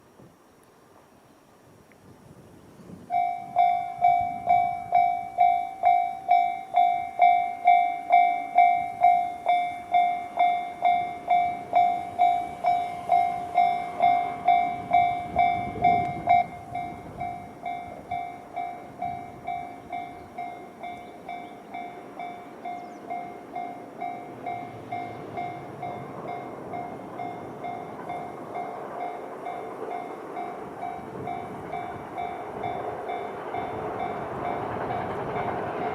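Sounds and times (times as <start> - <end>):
approaching train rumble: 0.0 - 35.9
railroad crossing bell dinging: 3.1 - 35.9.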